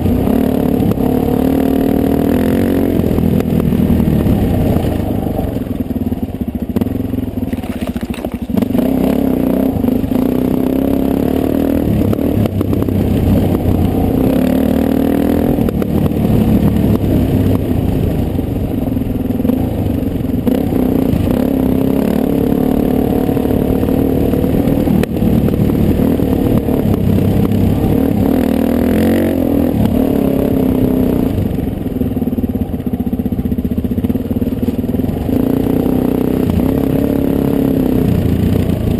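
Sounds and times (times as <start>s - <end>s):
dirt bike engine: 0.0s - 38.9s.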